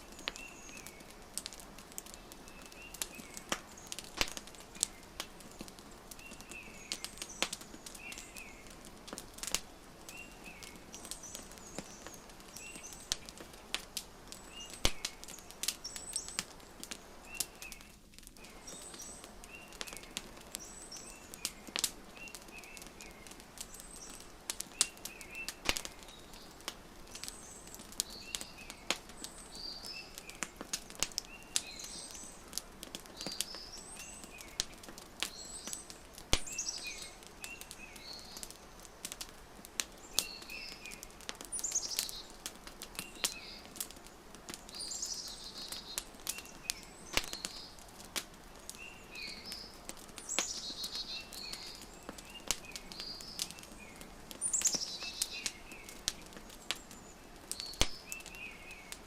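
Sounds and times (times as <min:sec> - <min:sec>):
birds chirping: 0:00.0 - 0:59.0
wood fire crackling: 0:00.0 - 0:59.0
sharp pops of fire: 0:00.1 - 0:59.0.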